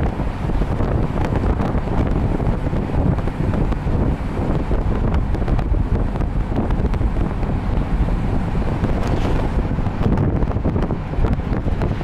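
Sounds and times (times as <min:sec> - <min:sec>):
moving bus rumble: 0:00.0 - 0:12.0
wind on microphone: 0:00.0 - 0:12.0.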